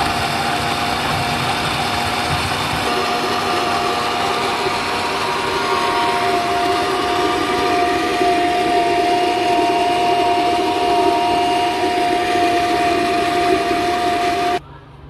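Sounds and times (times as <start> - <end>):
electric blender running: 0.0 - 14.6.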